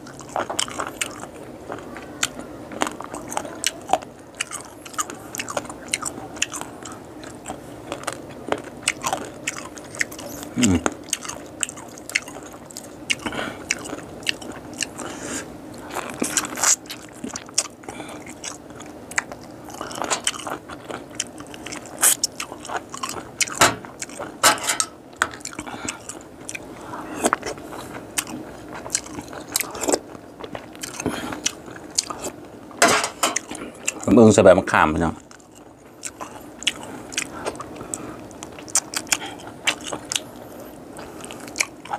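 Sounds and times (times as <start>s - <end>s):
person chewing with crunching: 0.0s - 34.2s, 35.1s - 41.9s.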